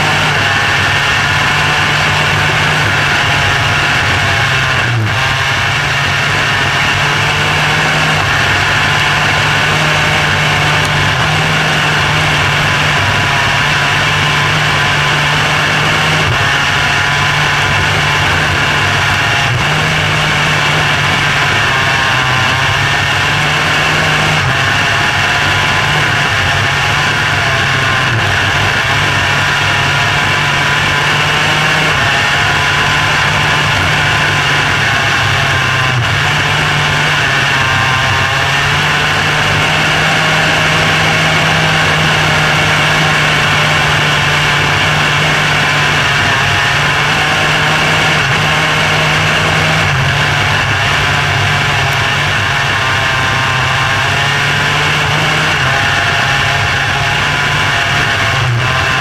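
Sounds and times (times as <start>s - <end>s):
racing car engine running hard: 0.0s - 59.0s.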